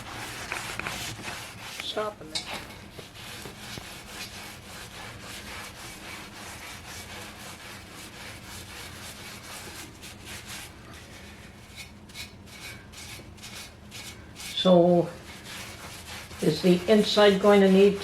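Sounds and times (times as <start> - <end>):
soap pad scrubbing metal: 3.0 - 18.0.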